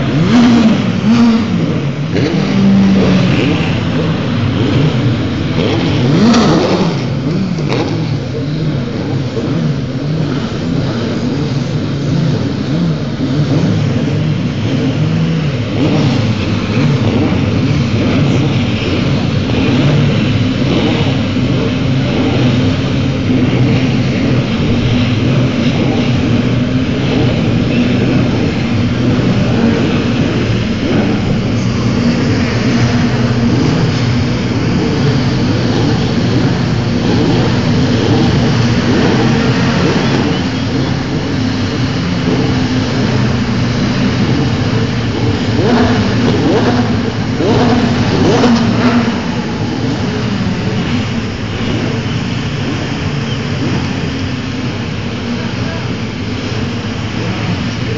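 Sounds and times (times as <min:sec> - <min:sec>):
race car engines idling: 0:00.0 - 0:57.9.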